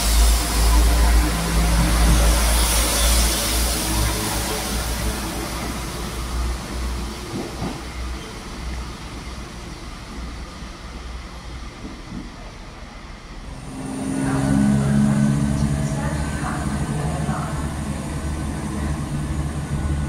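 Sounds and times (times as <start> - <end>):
train engine rumble: 0.0 - 20.0
train wheel noise: 0.0 - 20.0.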